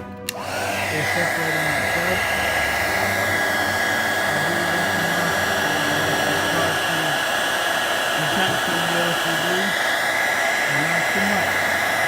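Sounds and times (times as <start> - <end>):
heat gun fan whining: 0.2 - 12.0.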